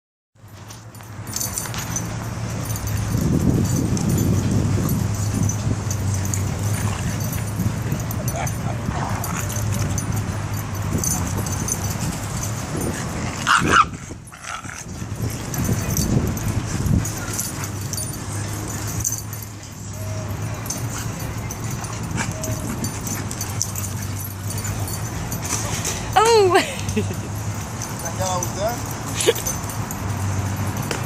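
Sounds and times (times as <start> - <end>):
dogs barking and yipping: 0.5 - 31.0.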